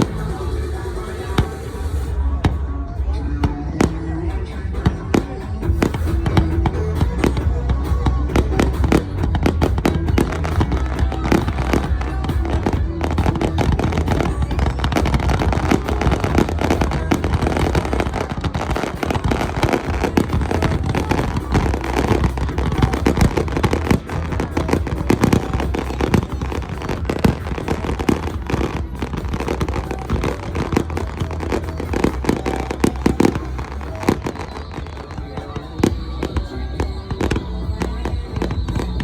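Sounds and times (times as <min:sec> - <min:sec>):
fireworks popping and banging: 0:00.0 - 0:39.0
low rumble: 0:00.0 - 0:39.0.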